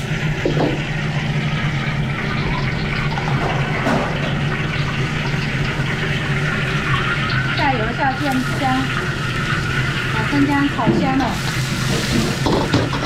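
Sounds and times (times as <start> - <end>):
gas burner rushing: 0.0 - 13.0
kitchen extraction hum: 0.0 - 13.0.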